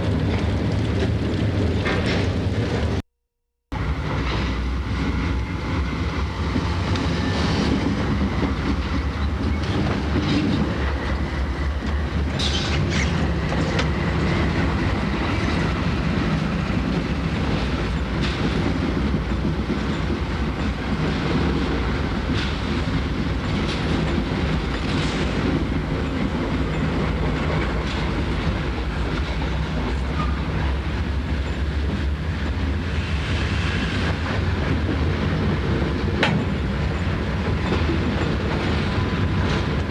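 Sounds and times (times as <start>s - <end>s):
clickety-clack of train wheels: 0.0s - 3.0s, 3.8s - 39.9s
train rumbling past: 3.8s - 39.9s.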